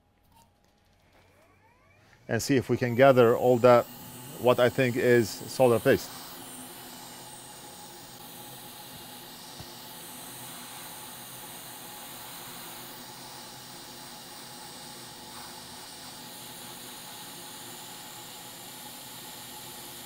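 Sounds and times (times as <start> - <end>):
hot air blower hissing: 1.6 - 20.0.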